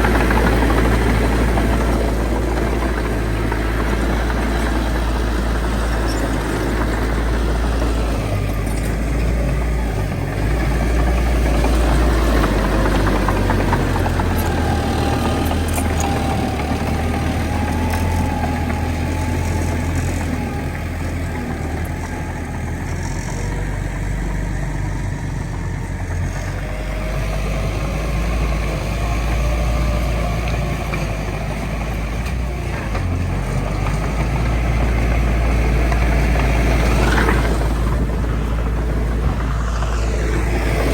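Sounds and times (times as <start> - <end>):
bulldozer diesel engine droning: 0.0 - 40.9
engine whine: 0.0 - 40.9.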